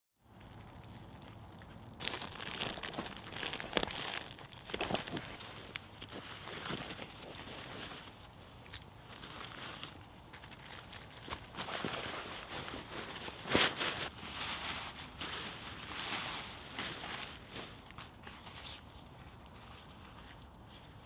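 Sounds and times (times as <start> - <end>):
stuff sack crinkling and rustling: 0.3 - 21.0.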